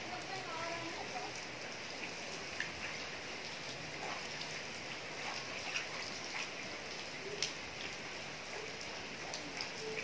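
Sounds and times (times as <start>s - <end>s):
heavy rain on flooded concrete: 0.0s - 10.0s
sharp rain splats: 0.0s - 10.0s.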